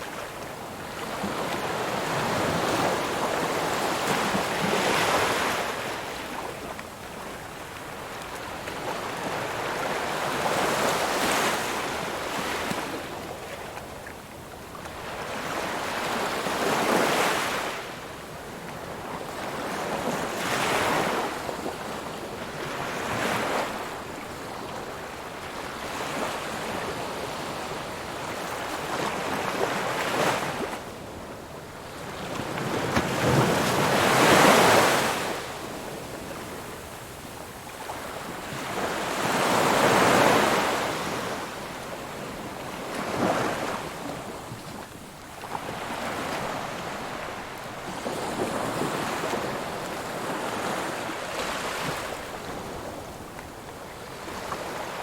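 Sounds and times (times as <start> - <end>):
ocean waves breaking on shore: 0.0 - 14.1, 14.7 - 55.0.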